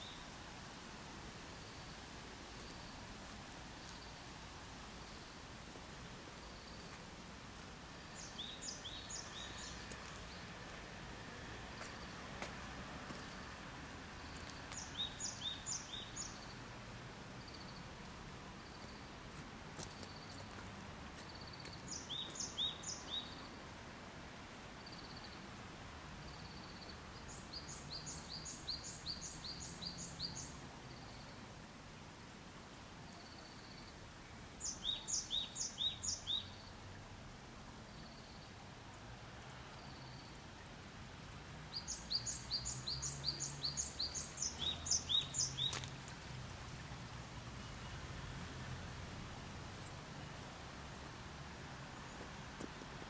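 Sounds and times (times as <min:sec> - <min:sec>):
outdoor background noise: 0:00.0 - 0:53.0.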